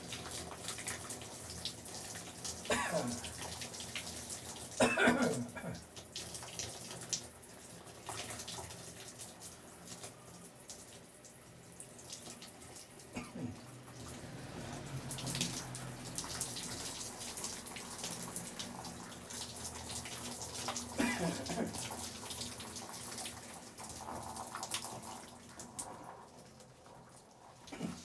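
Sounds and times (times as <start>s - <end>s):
shower water running: 0.0s - 28.0s
small splashes and drips: 0.0s - 28.0s.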